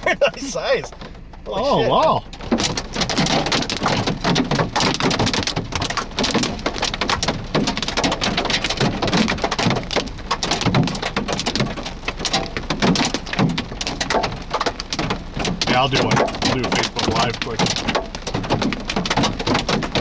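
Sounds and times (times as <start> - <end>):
hailstones and rain falling: 0.0 - 20.0.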